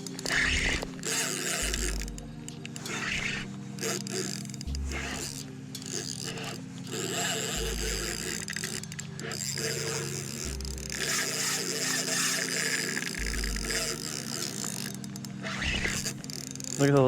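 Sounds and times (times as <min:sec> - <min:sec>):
fishing reel ratcheting: 0:00.0 - 0:17.0.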